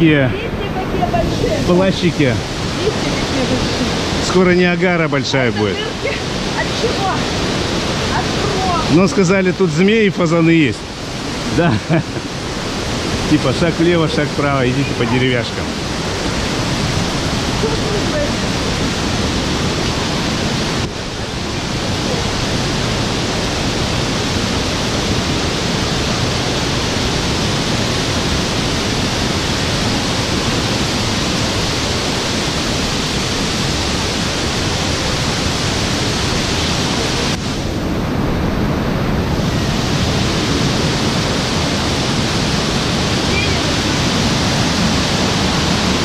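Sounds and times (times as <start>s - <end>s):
waterfall rushing over boulders: 0.0s - 46.0s.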